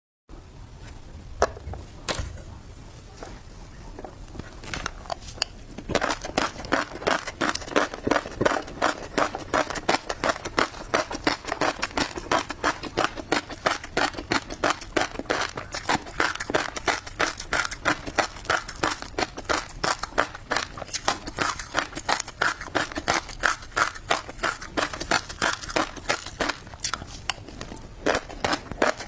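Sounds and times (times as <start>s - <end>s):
fish roe crunching while chewing: 4.2s - 29.0s
chewing clicks: 4.6s - 29.0s.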